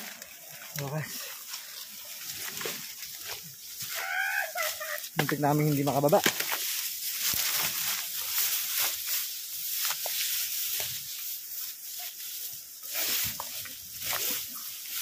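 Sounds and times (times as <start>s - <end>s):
footsteps crackling through dry leaves: 0.0s - 15.0s
steady hiss: 0.0s - 15.0s.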